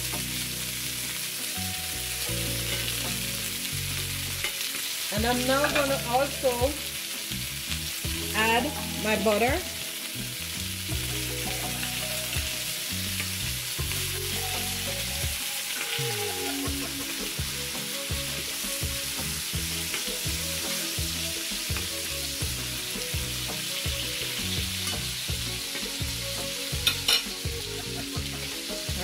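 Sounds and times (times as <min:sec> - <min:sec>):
fish sizzling in a skillet: 0:00.0 - 0:29.0.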